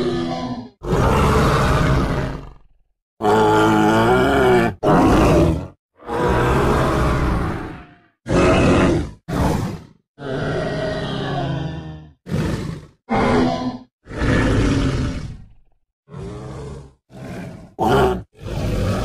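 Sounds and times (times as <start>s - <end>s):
monster roaring: 0.0s - 19.0s.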